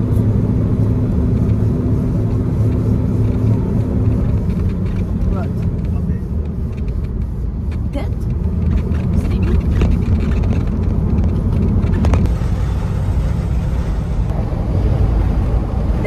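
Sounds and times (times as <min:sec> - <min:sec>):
road and engine noise in van: 0:00.0 - 0:16.0.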